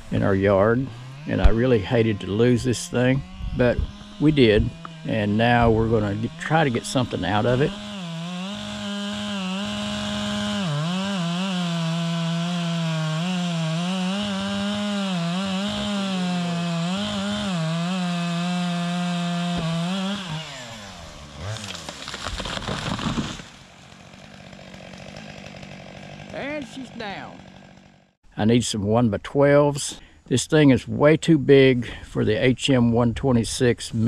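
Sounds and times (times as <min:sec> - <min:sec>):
chainsaw cutting log: 0:00.6 - 0:28.2.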